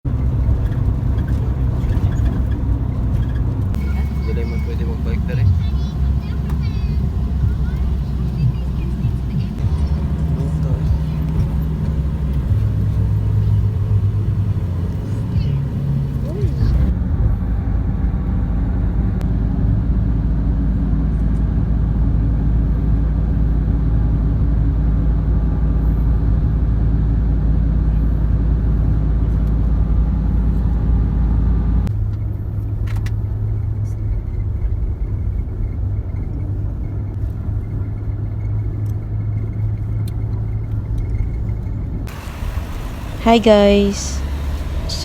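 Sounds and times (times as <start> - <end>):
vehicle engine and road rumble: 0.0 - 45.0.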